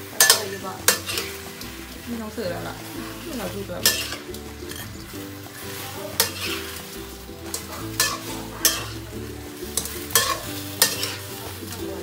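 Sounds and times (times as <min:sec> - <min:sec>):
shrimp sizzling in wok: 0:00.0 - 0:12.0
spatula clanking against wok: 0:00.0 - 0:12.0.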